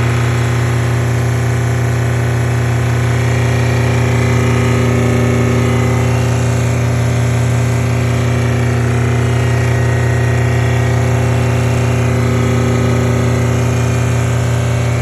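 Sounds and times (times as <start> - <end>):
pressure washer humming: 0.0 - 15.0.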